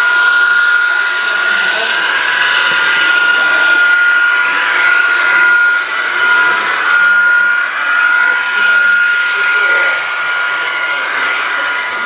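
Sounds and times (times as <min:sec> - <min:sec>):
model train motor whine: 0:00.0 - 0:12.0.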